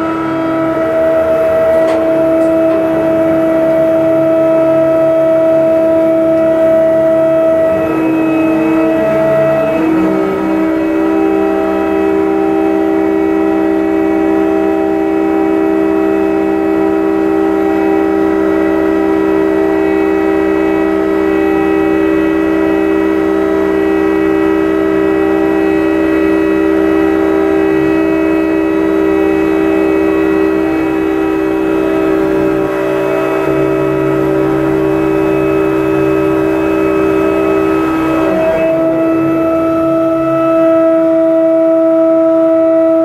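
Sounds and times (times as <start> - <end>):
crane hoist machinery whining: 0.0 - 43.0.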